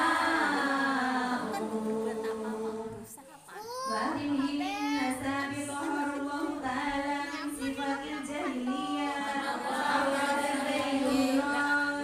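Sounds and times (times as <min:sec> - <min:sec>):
women chanting together: 0:00.0 - 0:03.2, 0:03.9 - 0:12.0.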